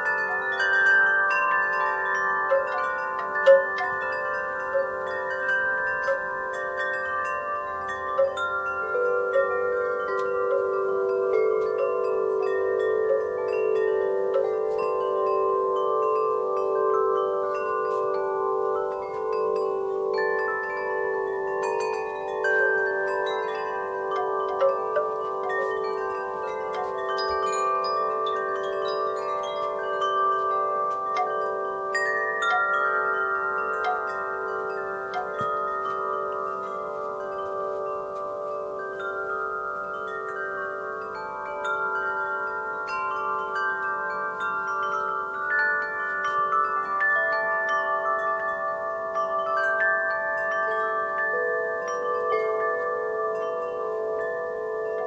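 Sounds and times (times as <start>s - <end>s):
wind chimes ringing: 0.0s - 55.0s.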